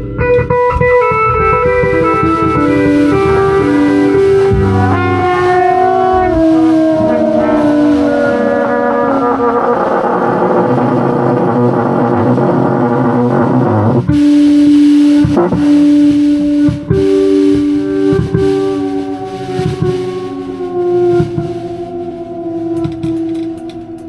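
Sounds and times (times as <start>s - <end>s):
improvised band music: 0.0s - 24.0s
held note sliding down in pitch: 0.7s - 24.0s.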